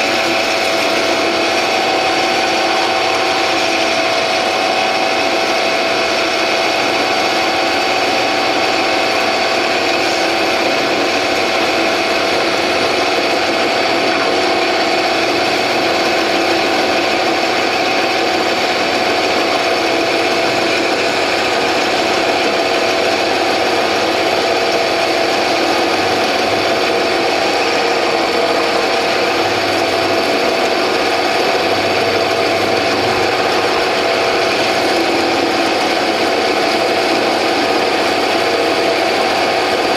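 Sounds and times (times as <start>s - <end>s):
metal lathe cutting steel: 0.0s - 39.9s
motor hum: 0.0s - 39.9s.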